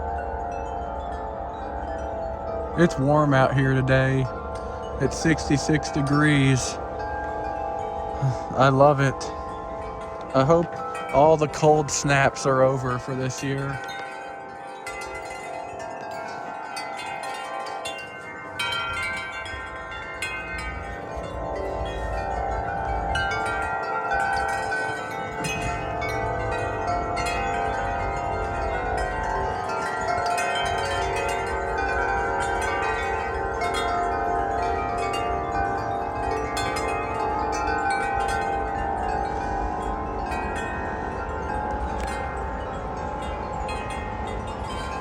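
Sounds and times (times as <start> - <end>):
wind chimes ringing: 0.0 - 45.0
wind rumbling on microphone: 0.0 - 45.0.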